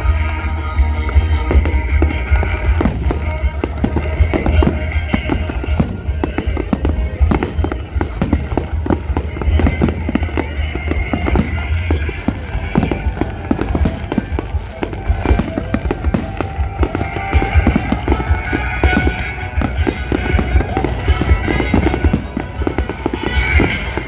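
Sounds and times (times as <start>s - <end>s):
fireworks bursts and crackling: 0.0s - 24.0s.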